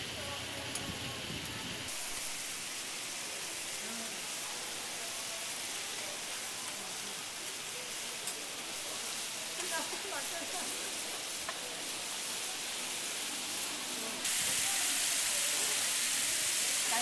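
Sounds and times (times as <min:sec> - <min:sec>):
patties sizzling on griddle: 0:00.0 - 0:17.0.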